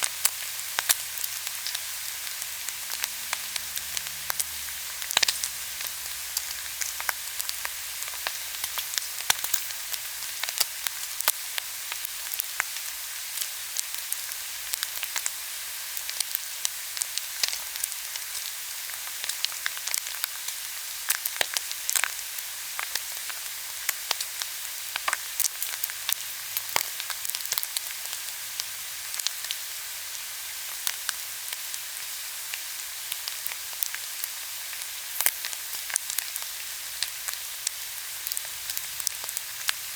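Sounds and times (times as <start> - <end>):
pork sizzling on a grill: 0.0 - 39.9.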